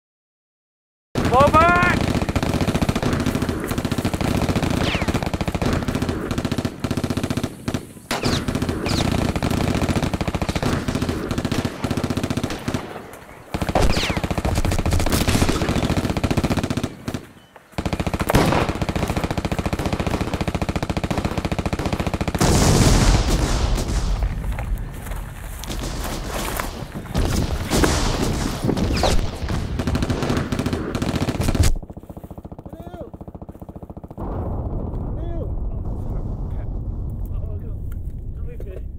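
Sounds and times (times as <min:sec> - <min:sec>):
automatic machine-gun fire: 0:01.2 - 0:24.3, 0:25.7 - 0:35.0.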